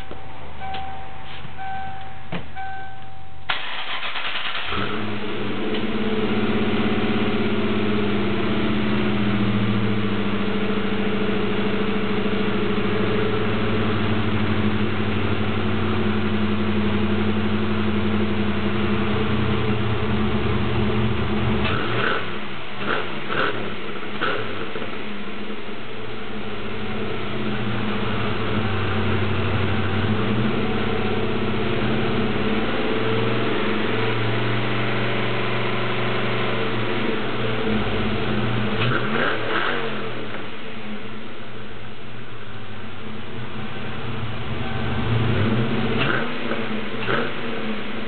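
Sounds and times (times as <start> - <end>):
car engine cranking and idling: 0.0 - 48.0.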